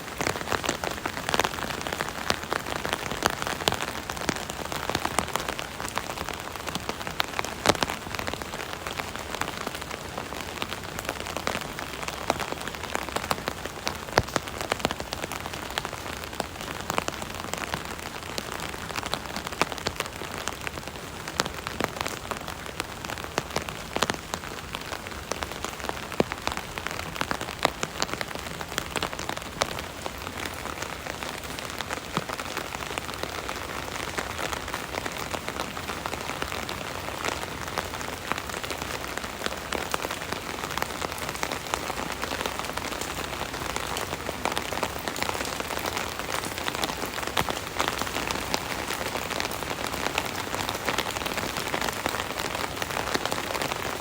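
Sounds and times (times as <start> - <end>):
rain pattering on an umbrella: 0.0 - 54.0.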